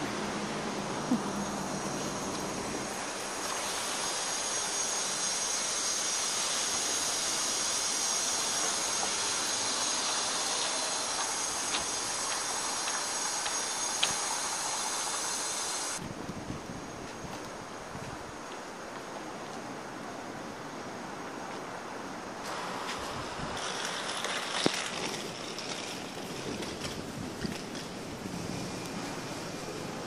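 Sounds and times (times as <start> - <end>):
city traffic hiss: 0.0 - 30.0.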